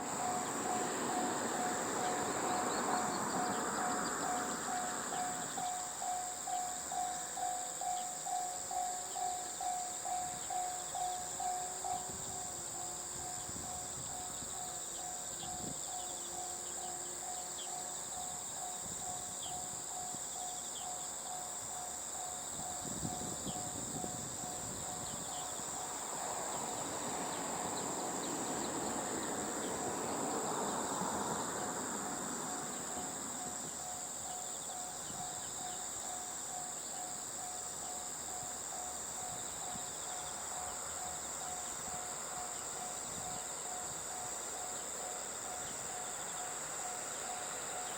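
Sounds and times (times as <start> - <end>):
crickets chirring: 0.0 - 47.9.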